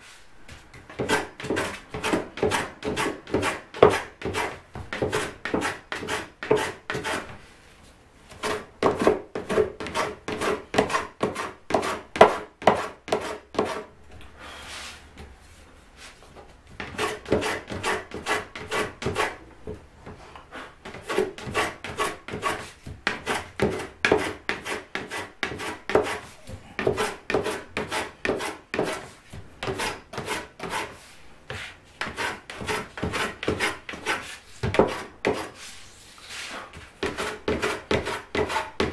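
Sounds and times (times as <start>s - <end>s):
hand plane shaving wood: 1.0s - 7.3s, 8.4s - 13.9s, 16.8s - 19.4s, 20.8s - 38.9s.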